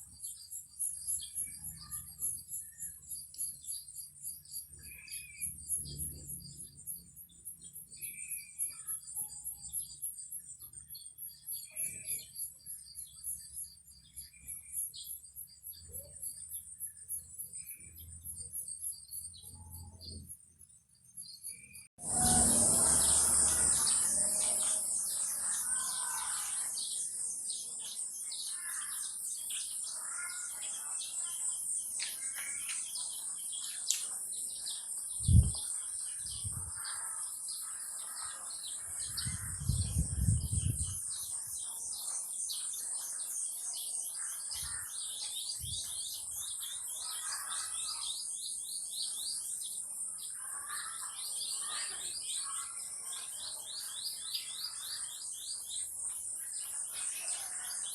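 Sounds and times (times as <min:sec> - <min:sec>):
birds chirping and calling: 0:00.0 - 0:57.9.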